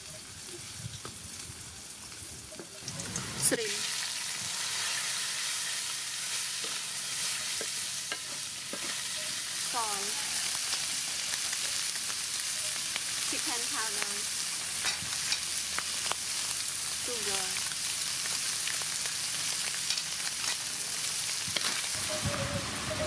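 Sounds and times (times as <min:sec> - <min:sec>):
shrimp sizzling in oil: 0:00.0 - 0:23.0.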